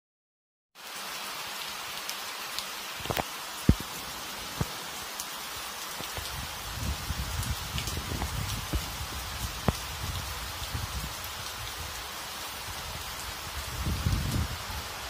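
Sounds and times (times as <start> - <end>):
heavy rain pouring: 0.8 - 15.0.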